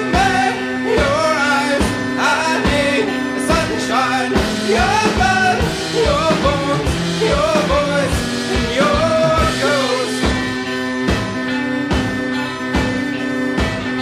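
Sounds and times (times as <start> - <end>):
song with drum beat: 0.0 - 14.0.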